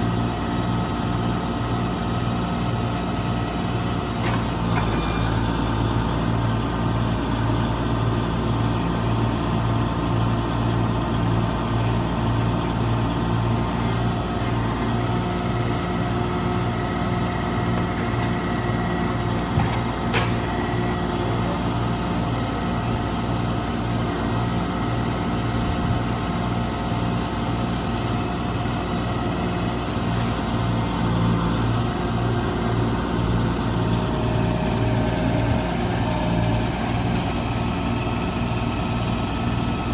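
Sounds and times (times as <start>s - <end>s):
log loader engine running: 0.0s - 39.9s.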